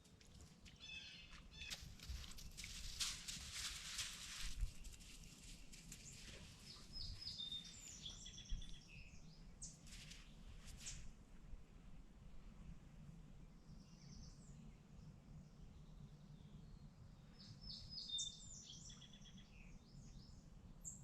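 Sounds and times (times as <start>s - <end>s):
songbirds chirping faintly: 0.0s - 21.0s.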